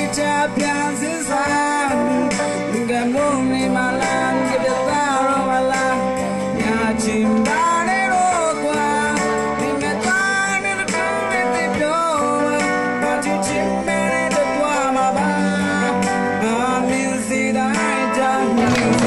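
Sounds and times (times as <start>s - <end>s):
guitar accompaniment: 0.0s - 19.0s
man singing into a microphone: 0.0s - 19.0s.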